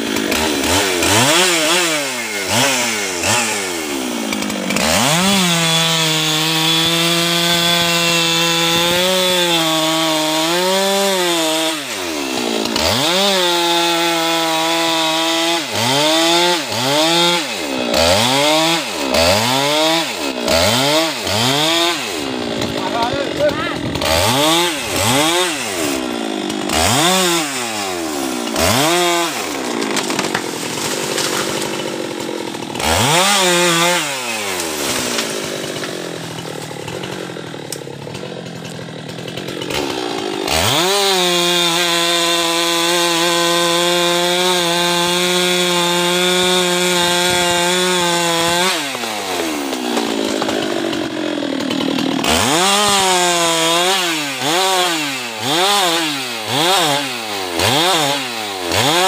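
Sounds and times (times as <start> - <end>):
chainsaw cutting through wood: 0.0 - 59.0
chainsaw revving: 0.0 - 59.0.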